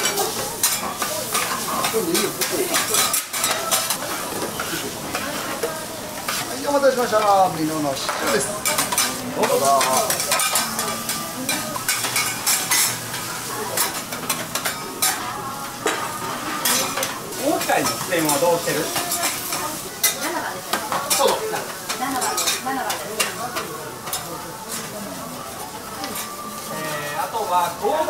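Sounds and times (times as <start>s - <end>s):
metal spatulas scraping and clacking: 0.0s - 7.4s, 8.0s - 15.2s, 15.8s - 24.9s
faint murmur of voices: 0.0s - 28.0s
food sizzling on a griddle: 0.0s - 28.0s.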